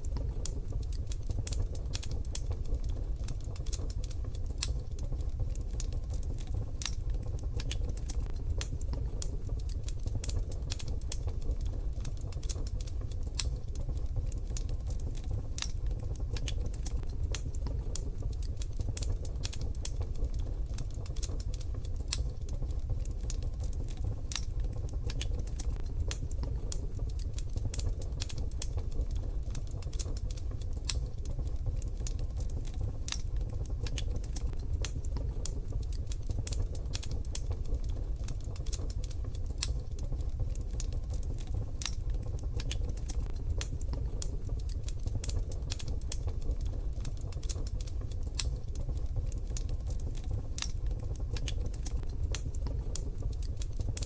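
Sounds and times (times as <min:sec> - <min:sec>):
stove low rumble: 0:00.0 - 0:54.0
wood fire crackling: 0:00.0 - 0:54.0.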